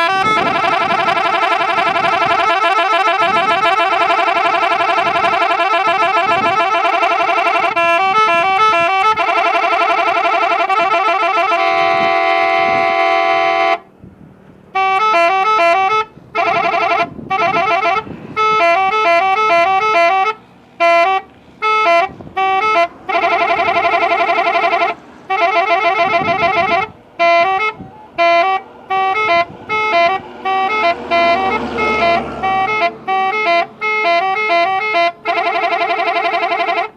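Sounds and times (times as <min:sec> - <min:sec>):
multi-tone musical bus horn: 0:00.0 - 0:14.0, 0:14.7 - 0:36.9.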